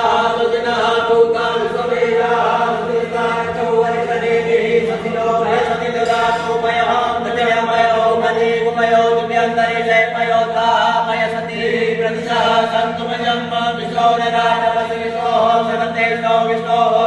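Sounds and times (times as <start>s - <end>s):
voices chanting together: 0.0s - 17.0s.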